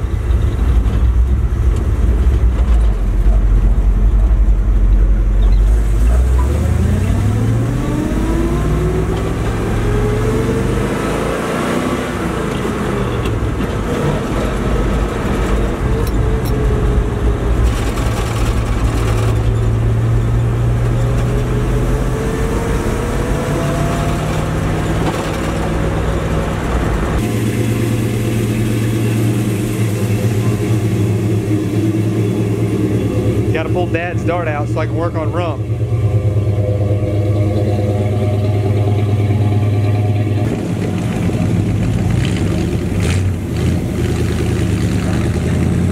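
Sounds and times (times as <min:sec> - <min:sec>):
pickup engine while driving: 0:00.0 - 0:45.9.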